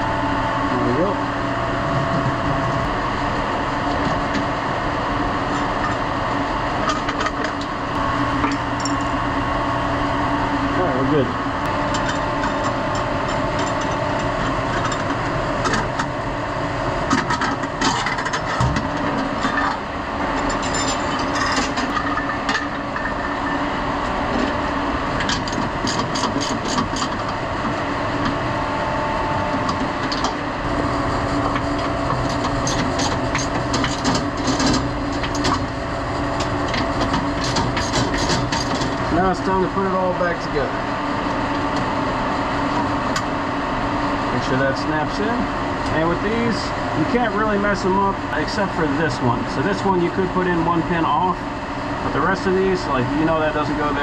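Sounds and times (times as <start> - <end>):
industrial machinery hum: 0.0 - 54.0.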